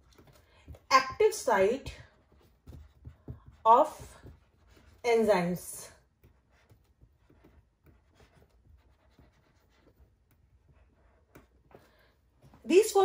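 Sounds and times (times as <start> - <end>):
marker pen scratching whiteboard: 0.0 - 13.0.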